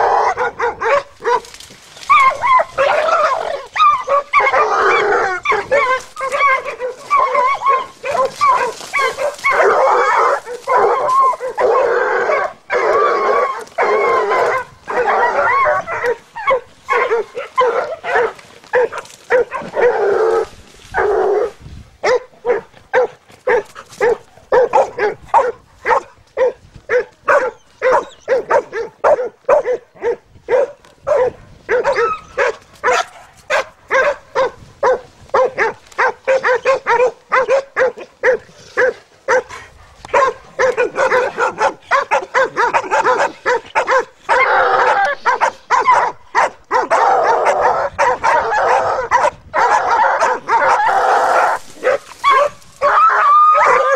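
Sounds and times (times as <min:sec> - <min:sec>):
hounds barking: 0:00.0 - 0:53.9.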